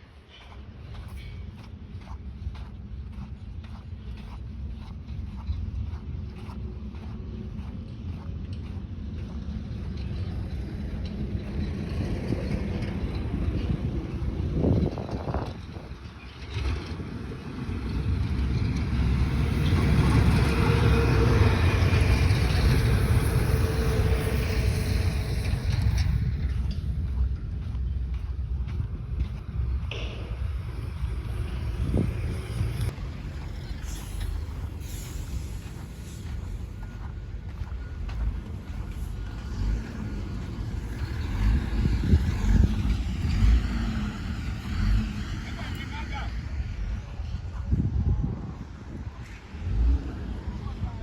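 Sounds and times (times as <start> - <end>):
motor vehicle running: 0.0 - 51.0.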